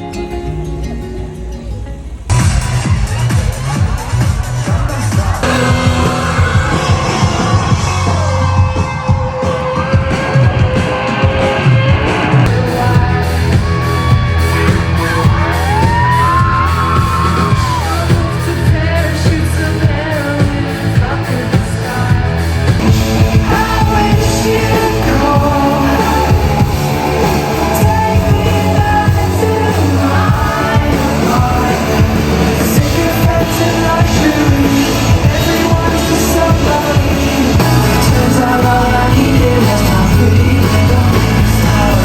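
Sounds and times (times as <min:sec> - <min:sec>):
bass beat: 0:00.0 - 0:42.0
live pop-rock band playing: 0:00.0 - 0:42.0
person singing: 0:00.0 - 0:42.0
crowd yelling: 0:02.3 - 0:19.6, 0:22.0 - 0:42.0.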